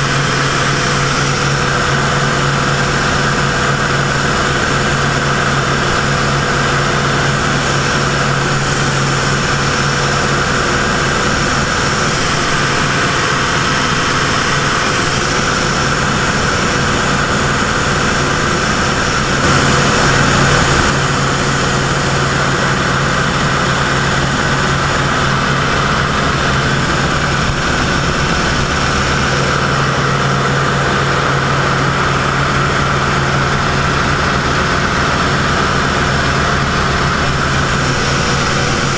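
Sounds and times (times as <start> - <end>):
aircraft engine droning: 0.0 - 38.9.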